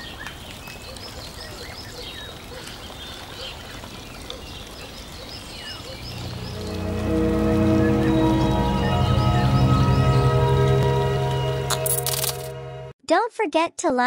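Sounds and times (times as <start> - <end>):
birds chirping: 0.0 - 11.7
running water: 0.0 - 12.7.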